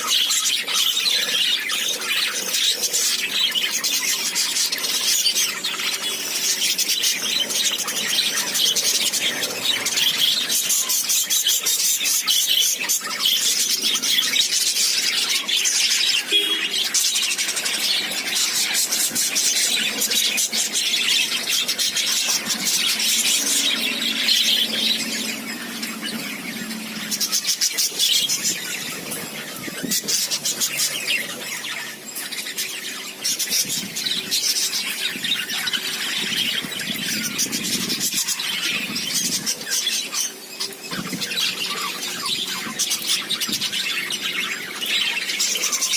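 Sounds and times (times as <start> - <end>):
birds chattering and calling: 0.0 - 45.9.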